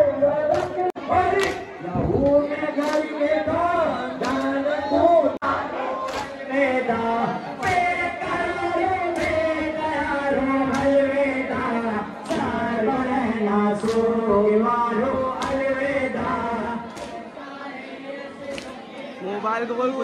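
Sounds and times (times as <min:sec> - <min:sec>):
sharp rhythmic beat: 0:00.0 - 0:17.6
male voices chanting: 0:00.0 - 0:19.4.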